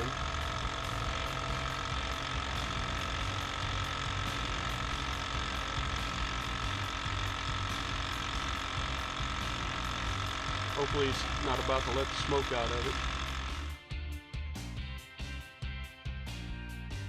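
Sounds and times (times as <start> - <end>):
electric vacuum pump whining: 0.0 - 13.9.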